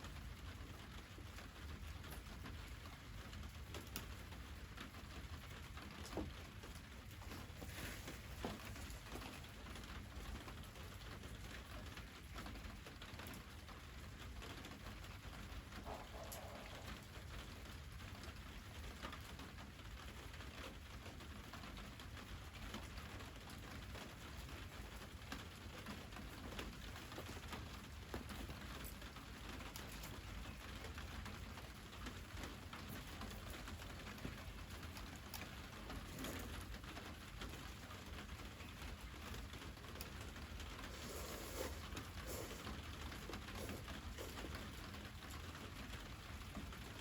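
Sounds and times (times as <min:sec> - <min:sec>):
wood fire crackling: 0:00.1 - 0:20.9, 0:22.0 - 0:47.0.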